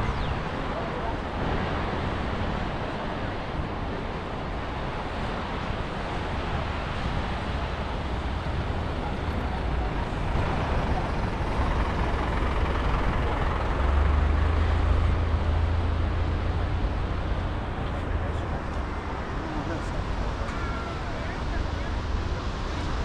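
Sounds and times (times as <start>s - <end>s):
steady traffic noise: 0.0s - 23.0s
vehicle engine rumble: 0.0s - 23.0s.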